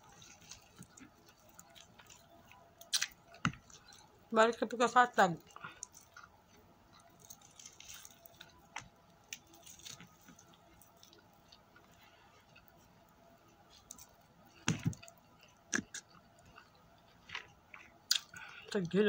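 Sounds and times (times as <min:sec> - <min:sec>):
soft crackles and squishes: 0:00.0 - 0:19.0.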